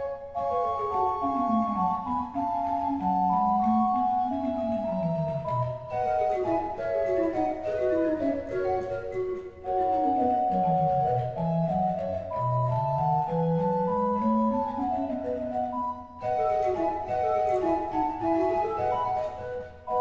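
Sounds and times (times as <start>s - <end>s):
pipe organ music: 0.0s - 20.0s.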